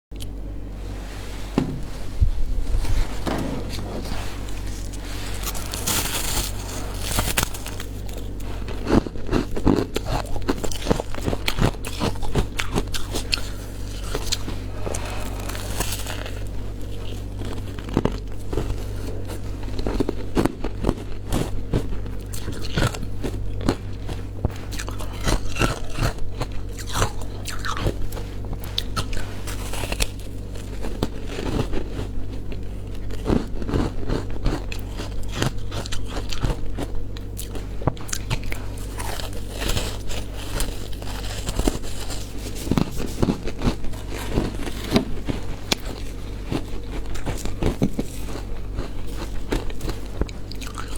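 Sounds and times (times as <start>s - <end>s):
steady low hum: 0.1s - 50.9s
ice being chewed with crunches: 4.0s - 50.9s.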